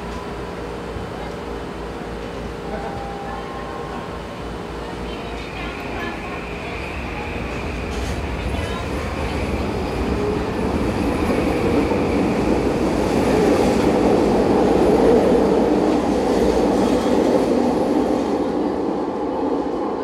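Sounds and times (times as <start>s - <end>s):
train pulling out: 0.0s - 20.0s.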